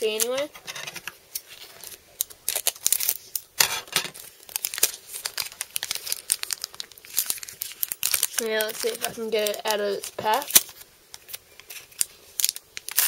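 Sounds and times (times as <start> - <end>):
foil wrapper crinkling and tearing: 1.0 - 13.0.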